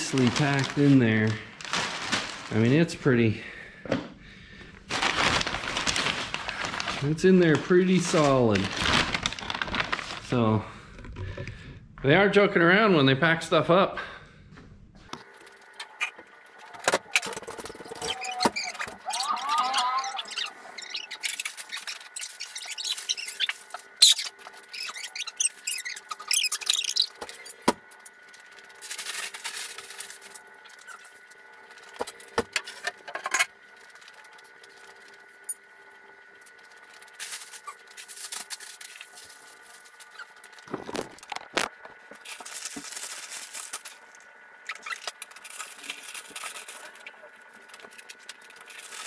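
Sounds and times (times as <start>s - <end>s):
packing paper rustling: 0.0s - 3.0s, 4.9s - 10.5s, 15.2s - 32.9s, 33.6s - 49.0s
faint steady hum: 0.0s - 49.0s.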